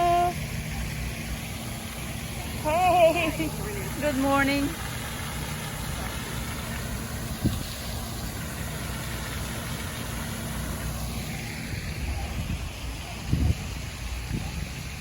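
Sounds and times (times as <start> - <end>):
vehicle engine idling: 0.0 - 13.4.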